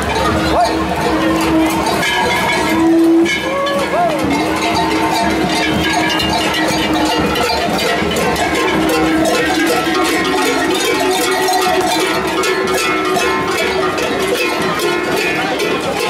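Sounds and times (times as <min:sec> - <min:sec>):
cowbells clanging: 0:00.0 - 0:16.0.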